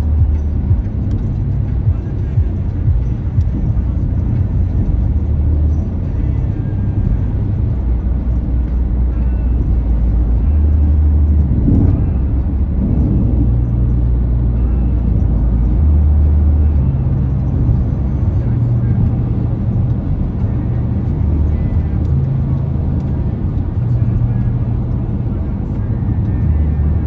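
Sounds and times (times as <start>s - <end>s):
car road and engine noise: 0.0s - 27.0s
music with bass line: 0.0s - 27.0s.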